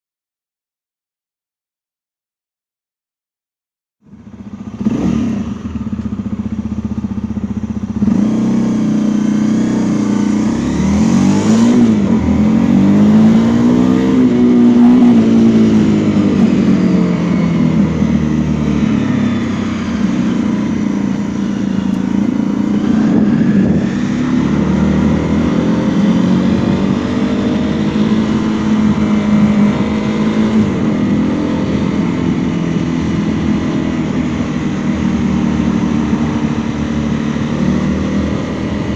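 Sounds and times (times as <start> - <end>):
motorcycle engine revving: 4.0 - 38.9.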